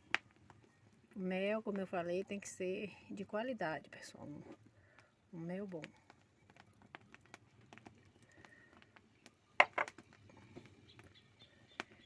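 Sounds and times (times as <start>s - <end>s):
fire crackling: 0.0s - 12.0s
syrup boiling in a pot: 0.0s - 12.0s.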